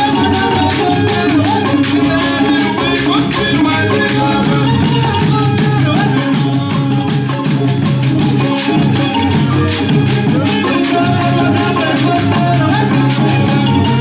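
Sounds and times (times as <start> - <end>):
drum ensemble playing: 0.0 - 14.0
shaken rattle percussion: 0.0 - 14.0.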